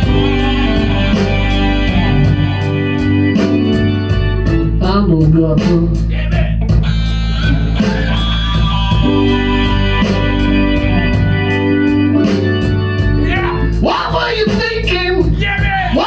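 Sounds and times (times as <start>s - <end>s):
electric guitar: 0.0s - 14.9s
drums with cymbal beat: 0.0s - 16.0s
organ chords: 0.0s - 16.0s.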